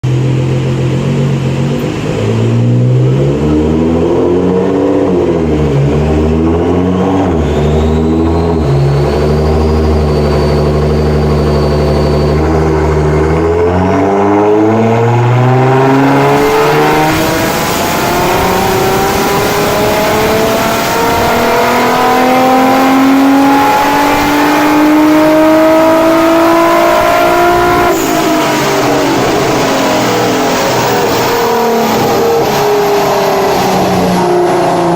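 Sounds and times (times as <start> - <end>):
car engine revving on a dyno: 0.0 - 34.9.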